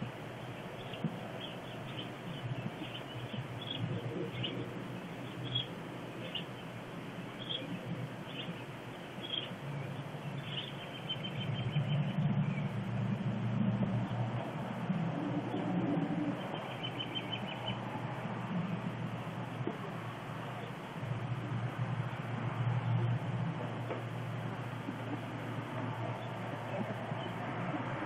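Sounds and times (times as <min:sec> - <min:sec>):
small birds chirping: 0:00.0 - 0:12.9, 0:14.0 - 0:23.2, 0:24.0 - 0:27.5
low rumble: 0:00.0 - 0:28.0
outdoor background noise: 0:00.0 - 0:28.0.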